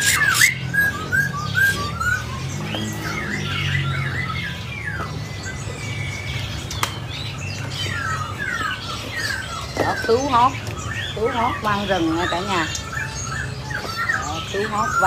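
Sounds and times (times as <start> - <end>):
songbirds chirping and whistling: 0.0 - 15.0.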